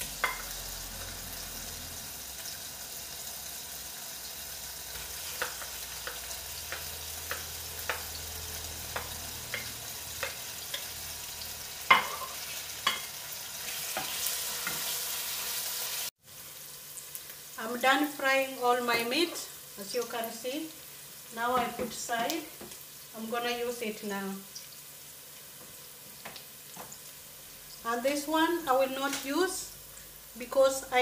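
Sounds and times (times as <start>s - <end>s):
onion sizzling in hot oil: 0.0s - 31.0s.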